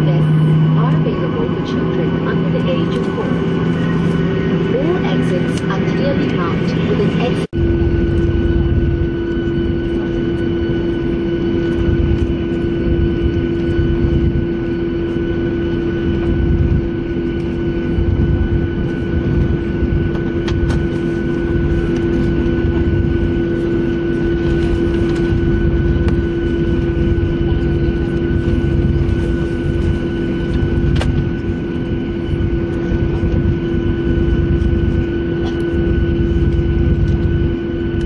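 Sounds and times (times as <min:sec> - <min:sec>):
jet engines at high thrust: 0:00.0 - 0:38.0.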